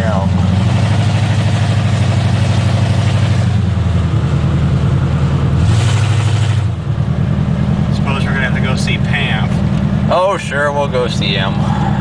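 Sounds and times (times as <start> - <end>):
loud truck engine exhaust: 0.0 - 12.0.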